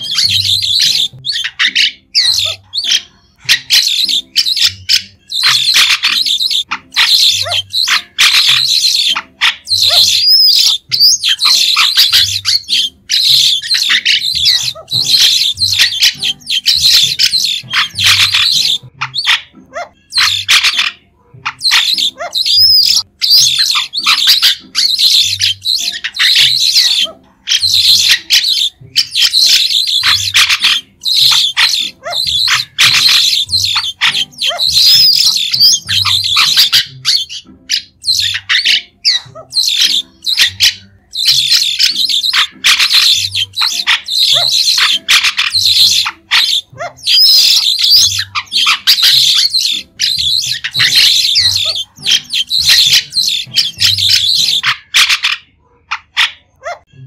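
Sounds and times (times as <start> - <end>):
starling chattering calls: 0.0 - 56.6.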